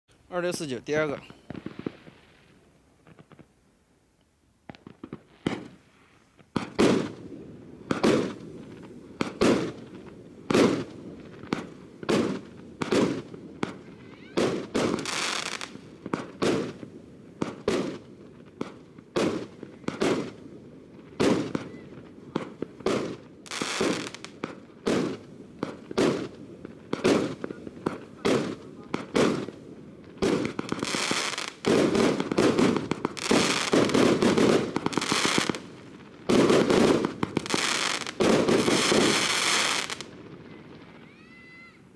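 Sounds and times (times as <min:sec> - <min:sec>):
firework crackling bursts: 0:00.3 - 0:03.6, 0:04.6 - 0:41.9
firework bangs: 0:00.5 - 0:03.5, 0:04.6 - 0:41.8
faint firework pops: 0:00.5 - 0:03.6, 0:04.2 - 0:07.2, 0:07.9 - 0:20.4, 0:21.0 - 0:35.7, 0:36.3 - 0:41.0.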